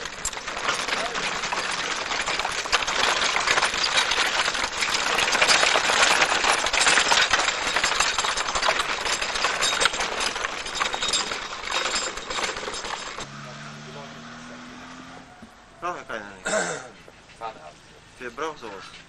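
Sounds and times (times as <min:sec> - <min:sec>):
wooden cart rattling and clattering: 0:00.0 - 0:17.7.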